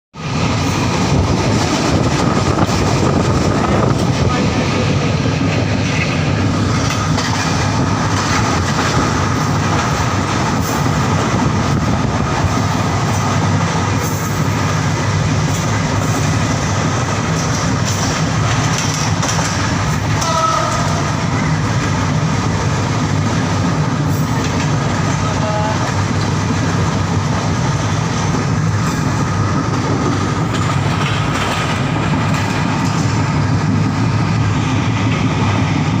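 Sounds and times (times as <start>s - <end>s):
train wheels rumbling on track: 0.1s - 36.0s.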